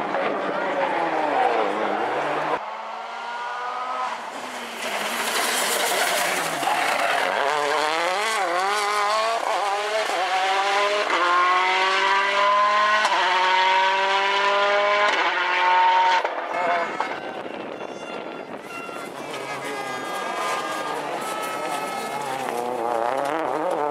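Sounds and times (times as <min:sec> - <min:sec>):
rally car engine accelerating: 0:00.0 - 0:17.0, 0:19.0 - 0:23.9.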